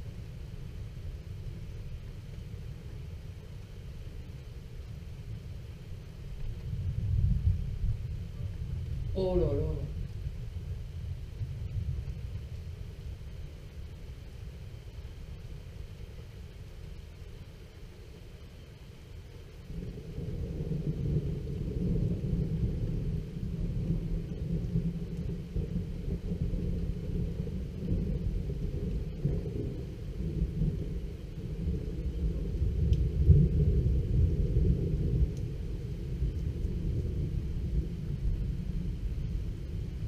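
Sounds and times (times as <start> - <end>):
thunder rumbling: 5.0 - 16.9, 19.6 - 40.0.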